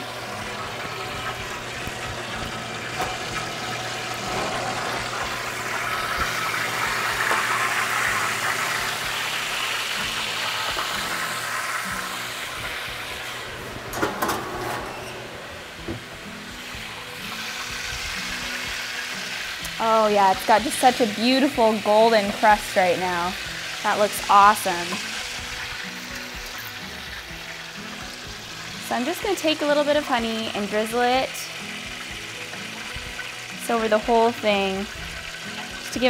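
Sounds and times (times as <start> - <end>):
meat sizzling in fat: 0.0 - 13.9, 14.9 - 36.0.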